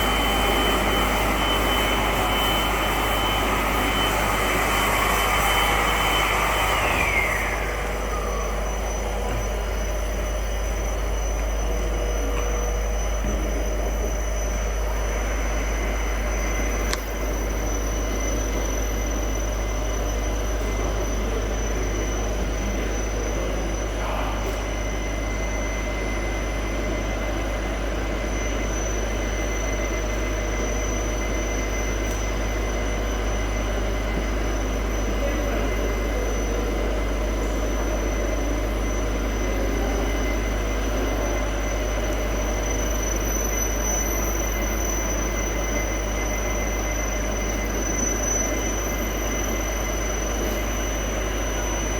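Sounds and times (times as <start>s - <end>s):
extrusion machine humming: 0.0s - 51.9s
high steady whine: 0.0s - 51.9s.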